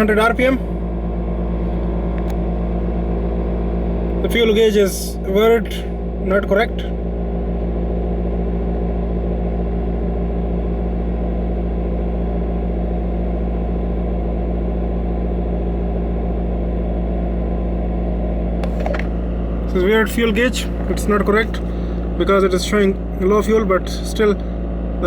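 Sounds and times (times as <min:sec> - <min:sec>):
car engine fast idle: 0:00.0 - 0:25.0.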